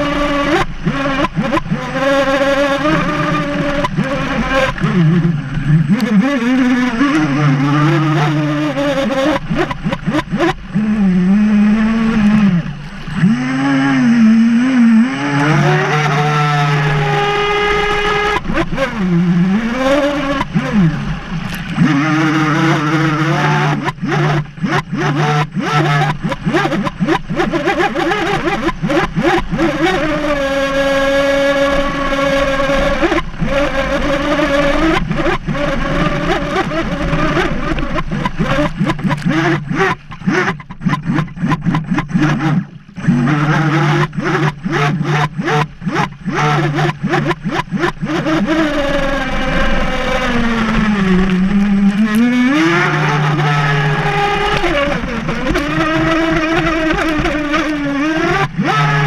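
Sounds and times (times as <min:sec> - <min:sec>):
electric motor whine: 0:00.0 - 0:59.0
hull slapping water: 0:00.0 - 0:59.0.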